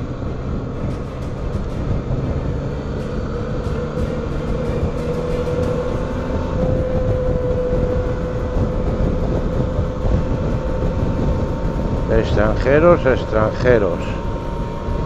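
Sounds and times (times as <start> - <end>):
motorcycle engine droning: 0.0 - 15.0
wind rushing over microphone: 0.0 - 15.0.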